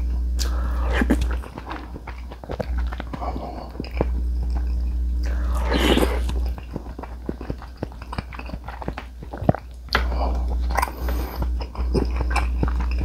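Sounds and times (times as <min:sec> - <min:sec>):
chewing with wet mouth clicks: 0:00.4 - 0:13.0.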